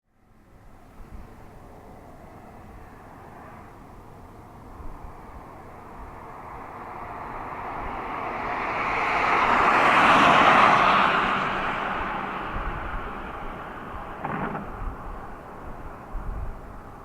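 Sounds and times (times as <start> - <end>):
jet engines passing by: 0.7 - 17.0.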